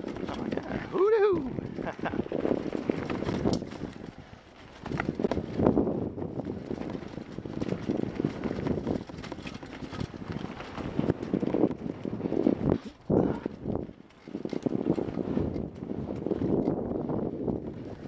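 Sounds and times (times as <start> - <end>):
mountain bike clattering over rocks: 0.0 - 18.0.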